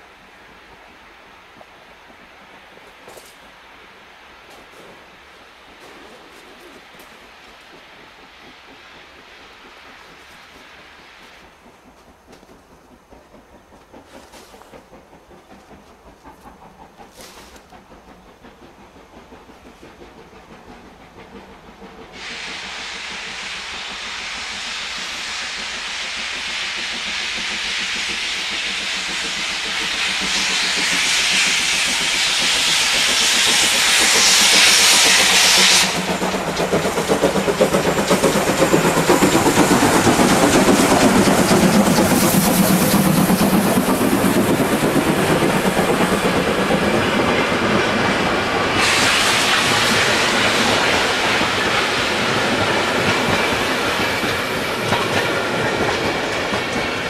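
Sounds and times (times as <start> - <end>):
steam locomotive hissing: 0.0 - 57.0
train rumbling and clacking on rails: 0.0 - 57.0.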